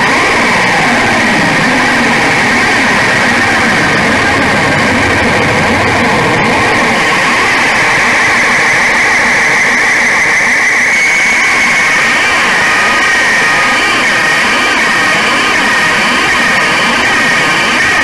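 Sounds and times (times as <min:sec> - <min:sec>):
harsh distorted noise music: 0:00.0 - 0:18.0.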